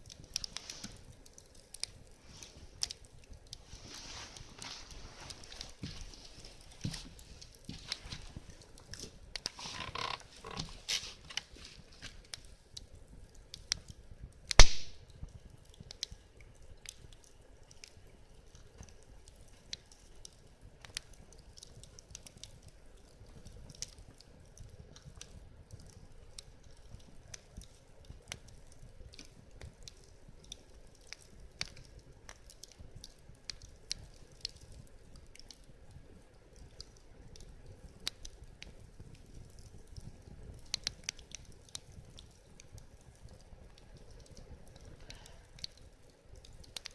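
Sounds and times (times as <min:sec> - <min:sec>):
loud fire snap: 0:00.0 - 0:46.9
wood fire crackling: 0:00.0 - 0:46.9.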